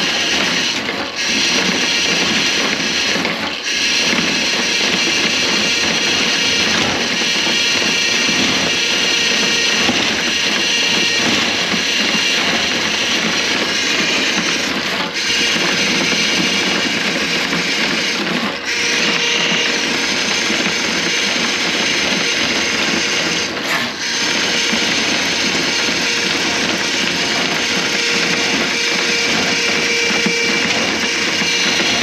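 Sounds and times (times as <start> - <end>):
drain-cleaning machine running: 0.0 - 32.0.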